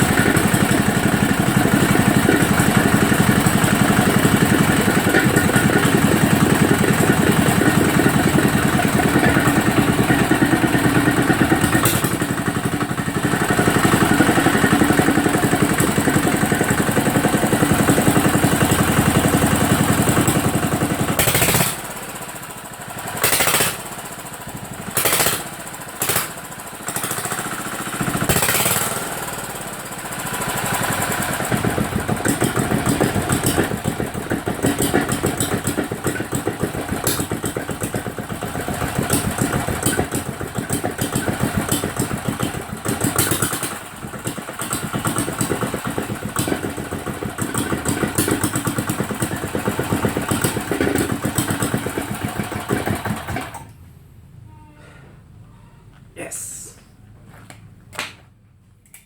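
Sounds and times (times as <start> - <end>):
motorcycle engine revving: 0.0 - 53.7.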